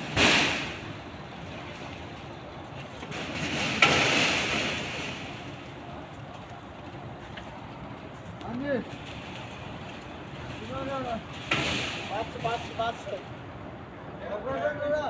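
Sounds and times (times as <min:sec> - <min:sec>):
background traffic hum: 0:00.0 - 0:15.0.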